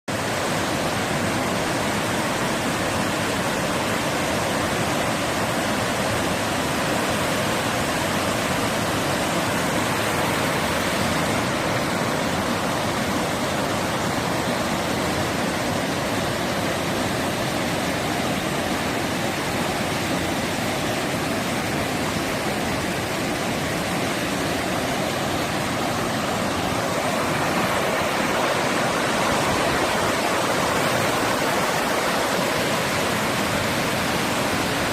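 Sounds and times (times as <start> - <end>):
steady rush of surf: 0.1 - 34.9.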